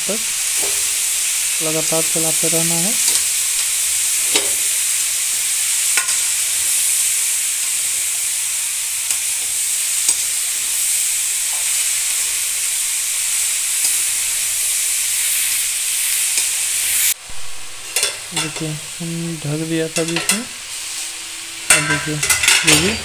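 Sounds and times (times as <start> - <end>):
cauliflower sizzling in oil: 0.0 - 23.0.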